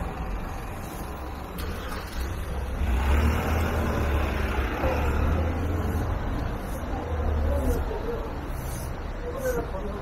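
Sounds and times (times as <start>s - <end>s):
vehicle engine rumble and tyre noise: 0.0s - 10.0s.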